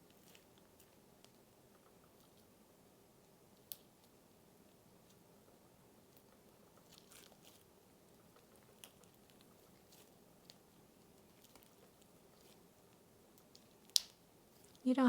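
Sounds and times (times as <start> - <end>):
faint crackles and clicks: 0.0 - 15.0.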